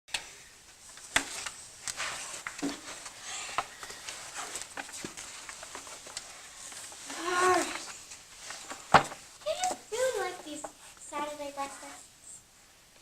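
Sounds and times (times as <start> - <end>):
rustling: 0.6 - 12.4.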